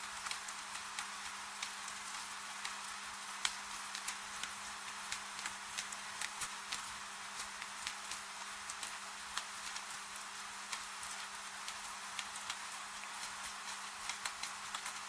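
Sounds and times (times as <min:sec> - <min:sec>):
gentle rain falling: 0:00.0 - 0:15.0.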